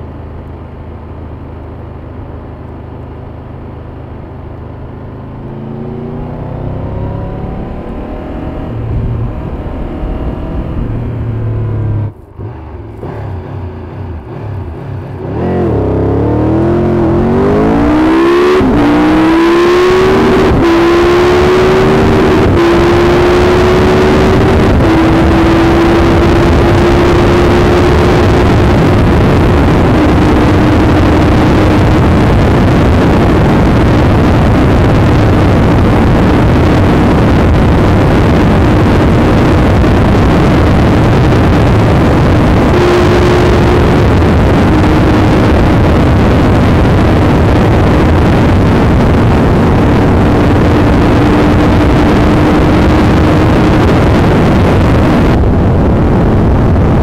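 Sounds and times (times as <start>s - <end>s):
motorcycle engine high revs: 5.2s - 55.4s
wind rush on microphone: 5.6s - 13.2s, 15.2s - 57.0s.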